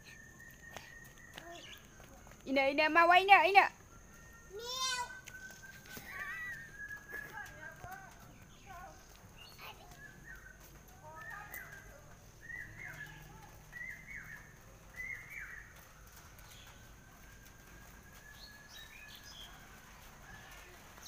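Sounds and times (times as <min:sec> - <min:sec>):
faint bird chirps: 0:00.0 - 0:02.7, 0:03.5 - 0:19.6.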